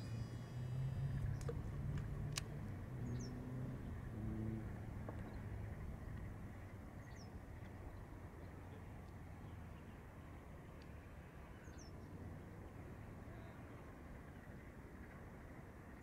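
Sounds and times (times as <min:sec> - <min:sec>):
distant vehicle engine hum: 0:00.0 - 0:16.0.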